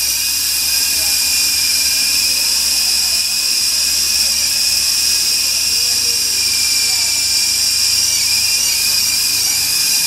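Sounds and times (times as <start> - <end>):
toy helicopter rotor whine: 0.0 - 10.0.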